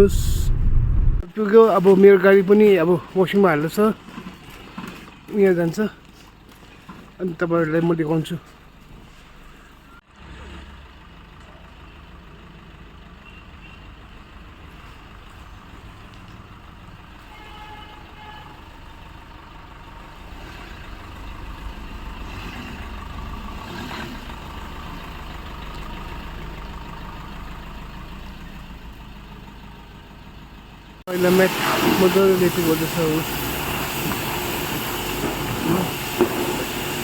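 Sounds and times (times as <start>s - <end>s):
vehicle engine rumbling: 0.0s - 1.3s, 2.1s - 37.0s.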